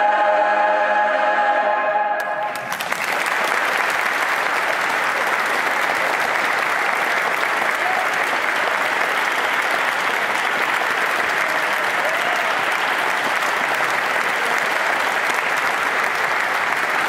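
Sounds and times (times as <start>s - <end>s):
audience applauding: 2.2s - 17.0s.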